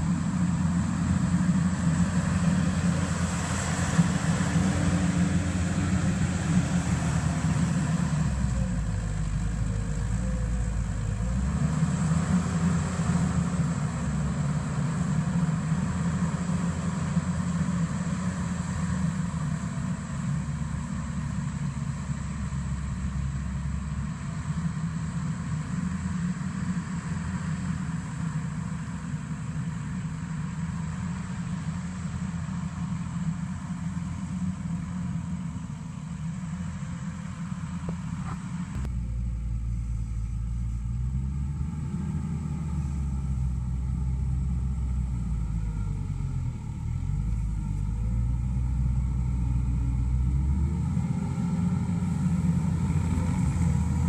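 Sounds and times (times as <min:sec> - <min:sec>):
loader diesel engine running: 0:00.0 - 0:54.0.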